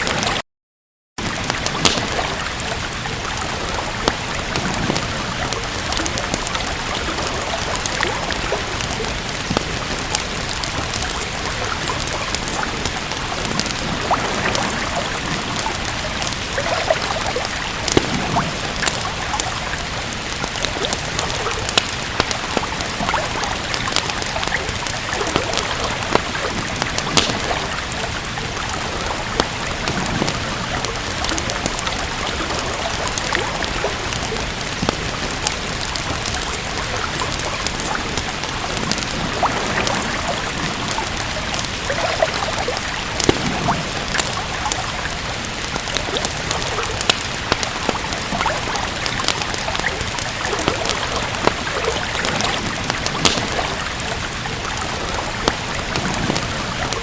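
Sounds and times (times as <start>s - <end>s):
steady rain: 0.0s - 0.4s, 1.2s - 57.0s
trickling running water: 1.2s - 57.0s
wood fire crackling: 1.2s - 57.0s.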